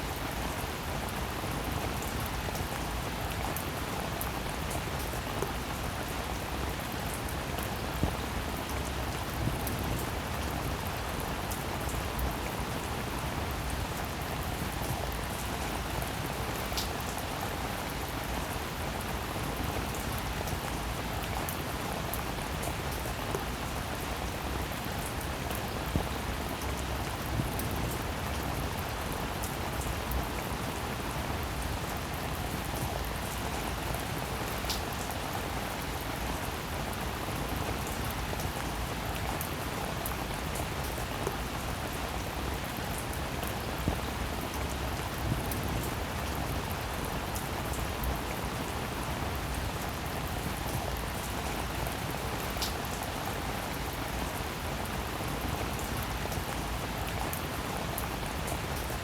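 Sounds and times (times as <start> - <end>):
rain falling: 0.0 - 59.0
raindrops: 0.0 - 59.0.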